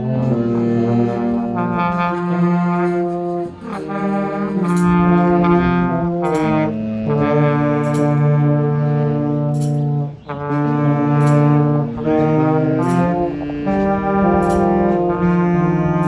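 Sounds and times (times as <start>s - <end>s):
brass instruments playing chords: 0.0s - 16.0s.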